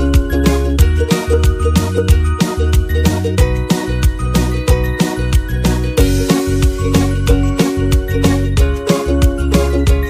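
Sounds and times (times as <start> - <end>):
upbeat music with drumbeat and bass: 0.0 - 10.0.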